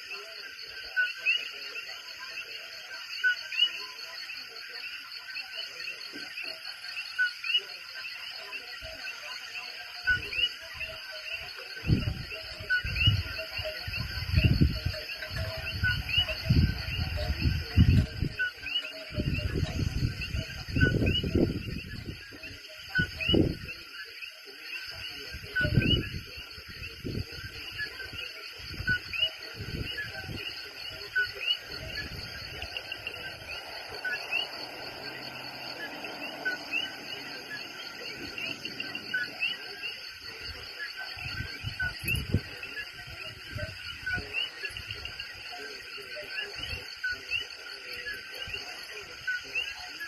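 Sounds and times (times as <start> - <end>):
frogs calling two-note calls: 0.0 - 50.0
high insect trill: 0.0 - 50.0.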